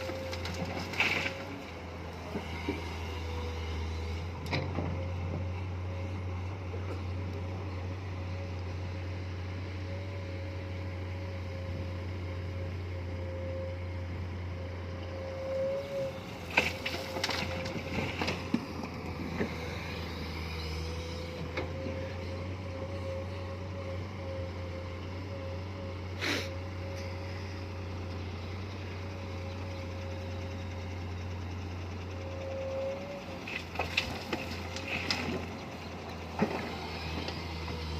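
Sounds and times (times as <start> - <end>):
constant whine: 0.0 - 37.9
excavator diesel engine running: 0.0 - 37.9.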